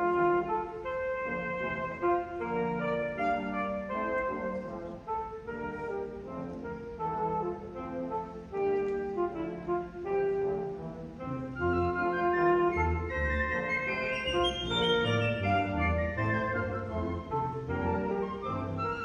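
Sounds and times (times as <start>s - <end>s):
wind band playing held chords: 0.0s - 19.0s.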